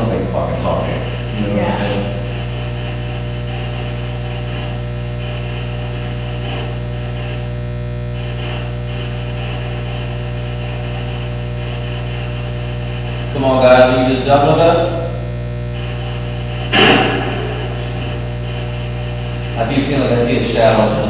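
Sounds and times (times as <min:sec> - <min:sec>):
electrical hum with buzz: 0:00.0 - 0:21.0.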